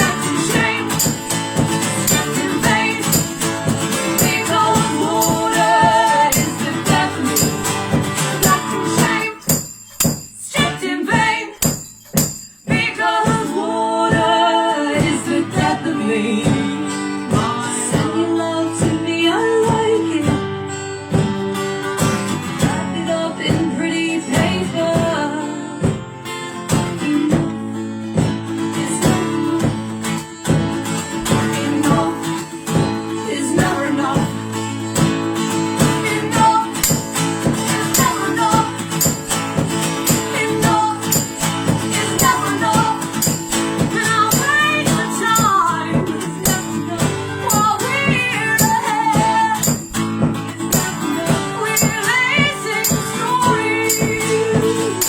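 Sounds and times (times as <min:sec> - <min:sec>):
person singing: 0:00.0 - 0:09.6, 0:10.5 - 0:11.6, 0:12.7 - 0:20.7, 0:22.5 - 0:26.0, 0:26.8 - 0:28.0, 0:31.2 - 0:34.6, 0:35.8 - 0:39.4, 0:40.1 - 0:49.9, 0:50.6 - 0:55.0
acoustic guitar strumming: 0:00.0 - 0:55.0.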